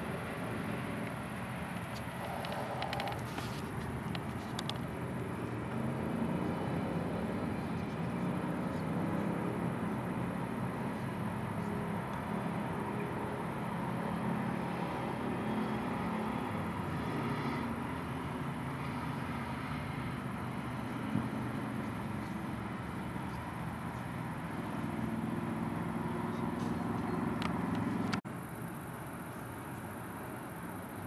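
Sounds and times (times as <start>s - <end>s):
distant road traffic: 0.0s - 31.0s.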